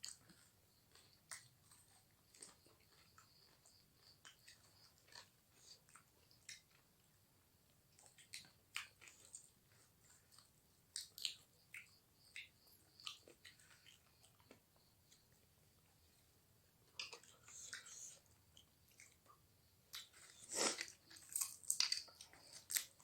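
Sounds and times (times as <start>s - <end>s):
person chewing and crunching food: 0.0s - 16.1s, 16.8s - 23.0s.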